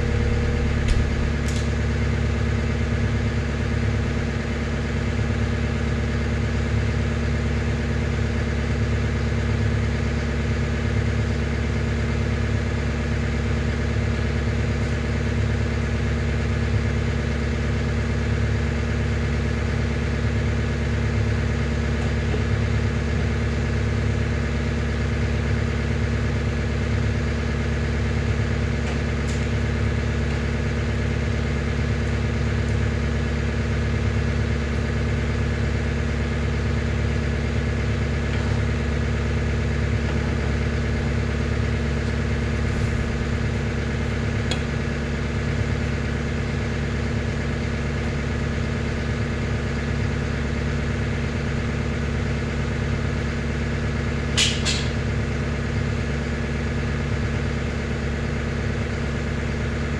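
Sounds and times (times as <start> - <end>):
loader engine idling: 0.0 - 59.9.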